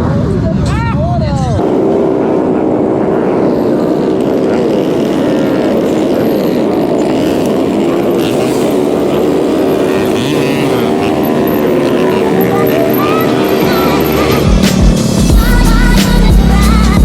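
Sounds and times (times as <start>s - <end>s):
small scooter engines droning: 0.0s - 17.0s.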